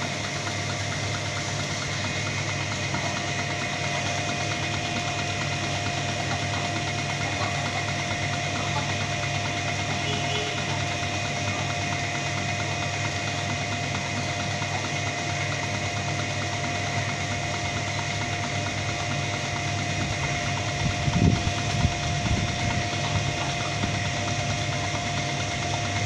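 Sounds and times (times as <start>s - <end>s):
machine hum with whine: 0.0s - 26.0s.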